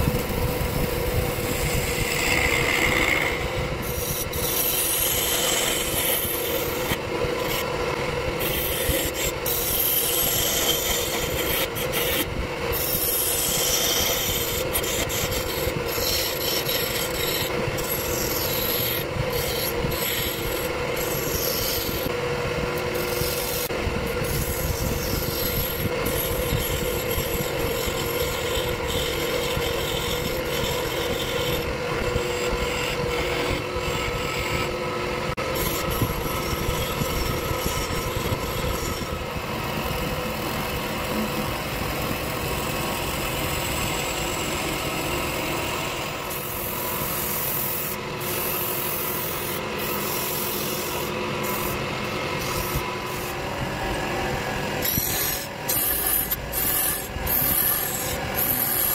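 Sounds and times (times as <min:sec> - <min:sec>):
chisel scraping spinning wood: 0:00.0 - 0:58.9
lathe motor tone: 0:00.0 - 0:58.9.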